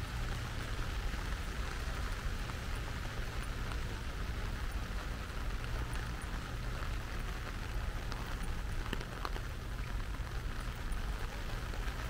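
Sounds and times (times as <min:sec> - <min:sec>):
sharp drip-like ticks: 0:00.0 - 0:12.0
steady rain falling: 0:00.0 - 0:12.0.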